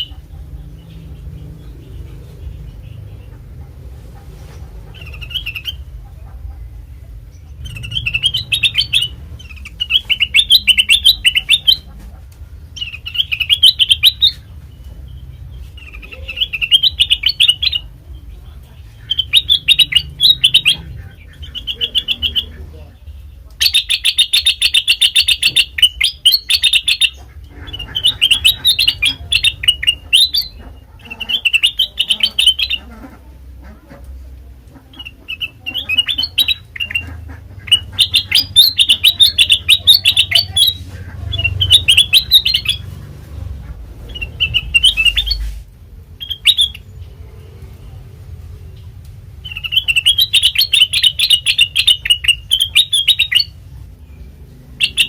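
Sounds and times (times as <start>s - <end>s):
bird chirping: 0.0s - 34.0s, 34.7s - 55.0s
faint low hum: 0.0s - 55.0s.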